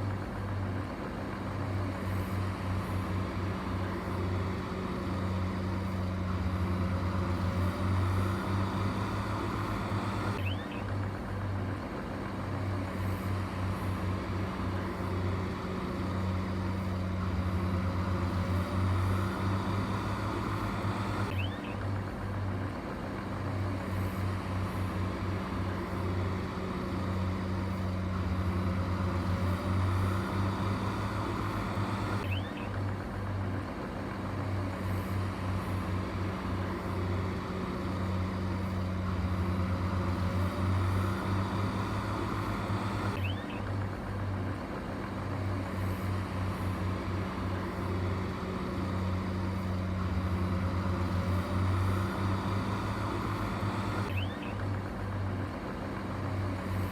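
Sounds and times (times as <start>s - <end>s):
heavy machine engine humming: 0.0s - 56.9s.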